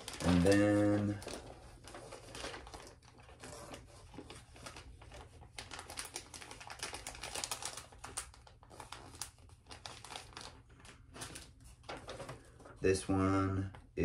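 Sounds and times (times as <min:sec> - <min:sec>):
paper and packaging crinkling: 0:00.0 - 0:13.9.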